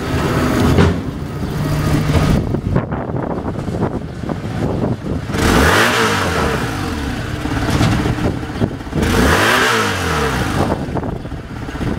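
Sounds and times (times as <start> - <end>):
motor vehicle engine running: 0.0 - 11.9.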